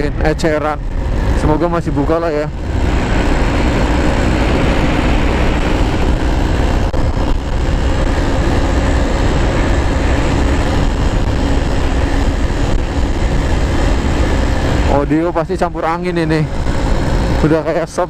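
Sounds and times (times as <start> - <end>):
two-stroke motorcycle engine: 0.0 - 18.0
wind buffeting microphone: 0.0 - 18.0.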